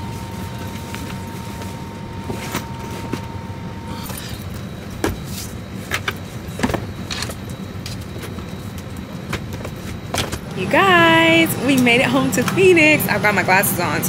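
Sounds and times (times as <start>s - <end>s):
low cabin hum: 0.0s - 14.0s.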